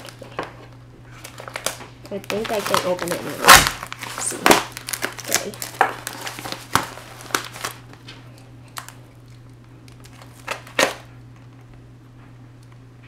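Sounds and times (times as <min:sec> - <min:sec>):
plastic mailer crinkling: 0:00.0 - 0:11.6.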